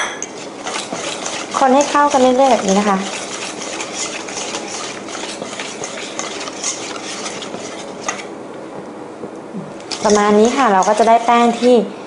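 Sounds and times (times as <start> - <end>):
batter stirred in metal bowl: 0.0 - 8.4, 9.7 - 11.9.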